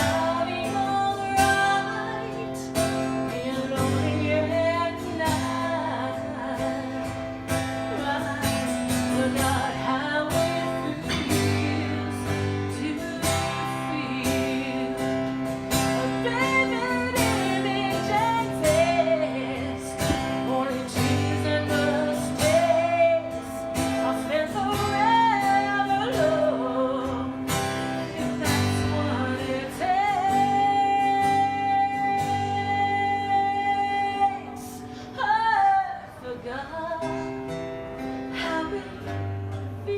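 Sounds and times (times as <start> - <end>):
guitar accompaniment: 0.0 - 39.9
woman singing: 0.0 - 39.9.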